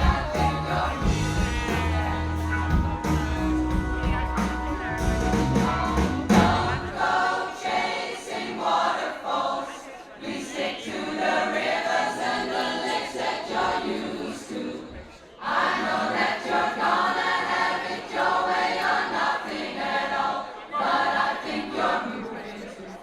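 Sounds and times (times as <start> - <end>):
choir singing held notes: 0.0 - 23.0.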